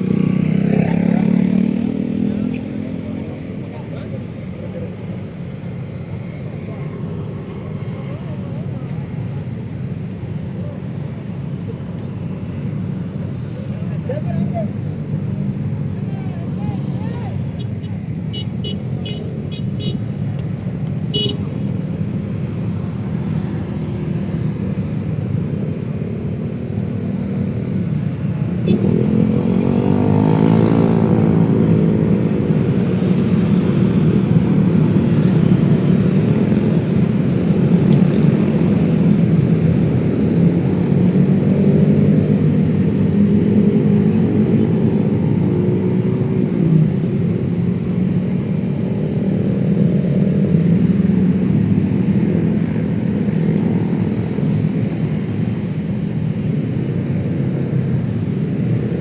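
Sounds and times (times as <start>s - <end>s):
engines revving close by: 0.0s - 19.4s, 20.5s - 59.0s
cars and motorcycles passing: 0.0s - 59.0s.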